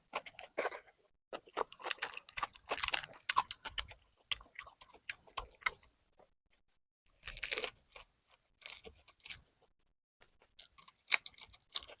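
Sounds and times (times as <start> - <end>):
crunchy chewing: 0.0 - 6.3, 7.1 - 12.0.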